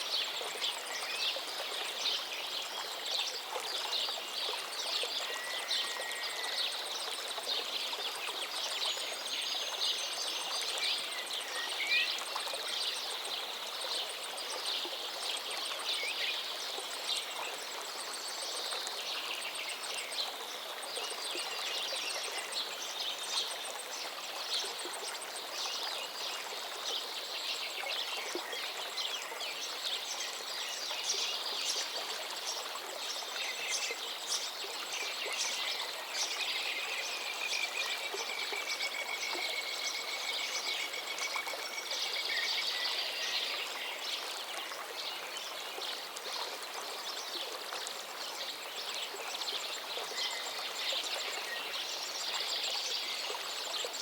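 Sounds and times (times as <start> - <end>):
river flowing: 0.0 - 54.0.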